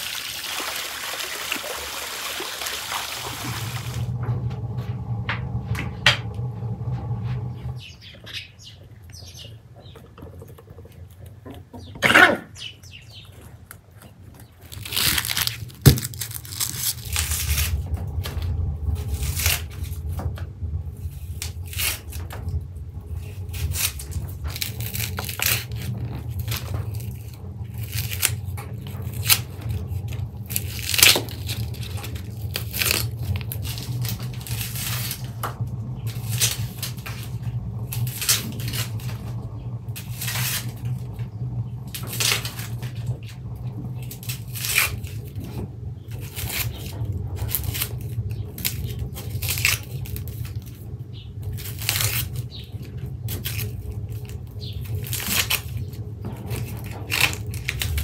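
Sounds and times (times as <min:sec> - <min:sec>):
steady low hum: 0:02.6 - 0:58.0
onion skins crackling and tearing: 0:10.8 - 0:58.0.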